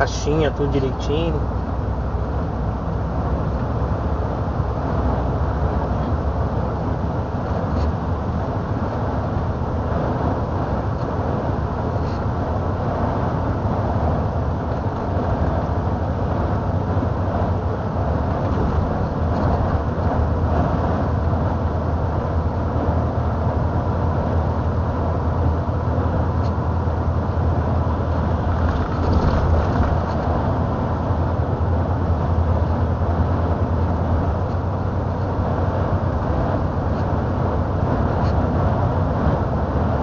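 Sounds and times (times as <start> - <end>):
road and tyre noise: 0.0 - 40.0
truck engine drone: 0.0 - 40.0.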